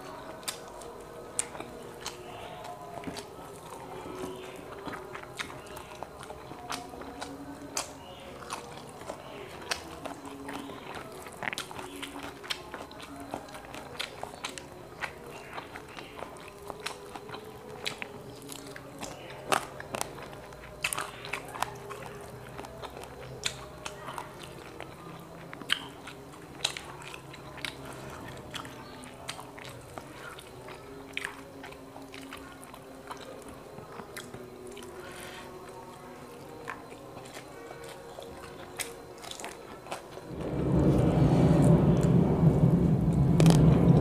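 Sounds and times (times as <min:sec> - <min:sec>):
person chewing with crunches: 0:00.0 - 0:42.1.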